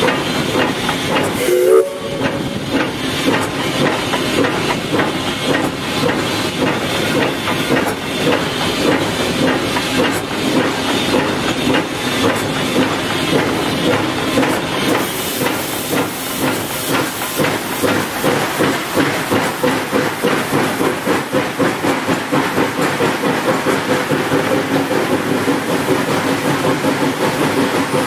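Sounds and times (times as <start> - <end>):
locomotive running noise: 0.0 - 28.0
steam hissing: 0.0 - 28.0
steam locomotive exhaust beats: 0.0 - 28.0.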